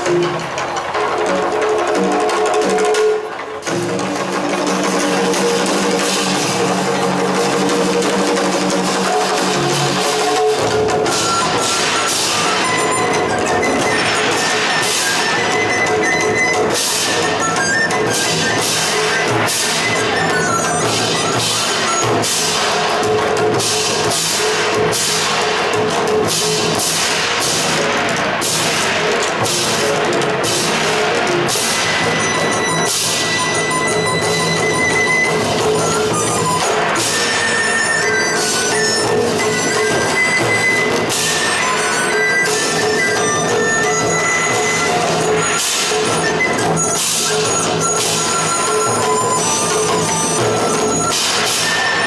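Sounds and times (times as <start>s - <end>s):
drums struck steadily: 0.0s - 52.0s.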